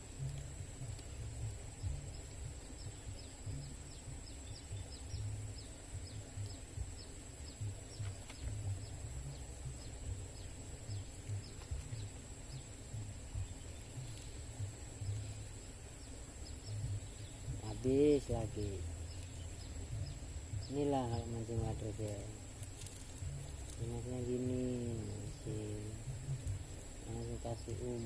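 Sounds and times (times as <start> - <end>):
low rumble: 0.0 - 28.0
bird chirping: 0.1 - 28.0.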